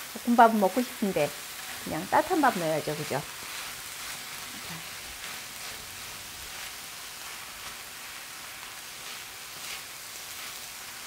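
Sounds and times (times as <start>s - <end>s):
food sizzling in an oiled pan: 0.0s - 11.0s
spatula stirring in a pan: 0.1s - 11.0s.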